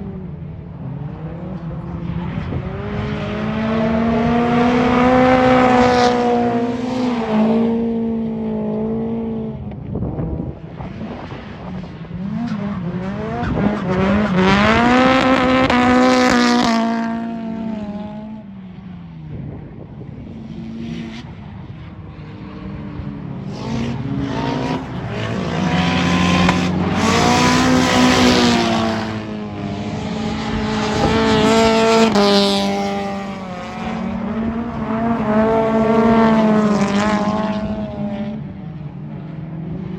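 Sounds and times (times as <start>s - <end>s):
car engines revving high: 0.0s - 39.9s.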